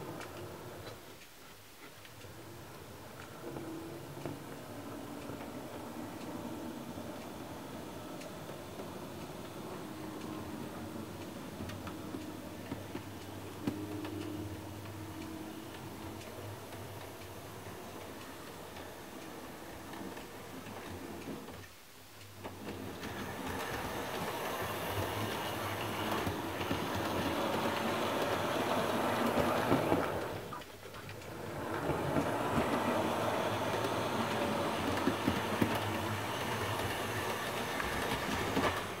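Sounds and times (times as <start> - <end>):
clicks of model track: 0.0 - 39.0
model train wheels and motor whirring: 0.0 - 39.0.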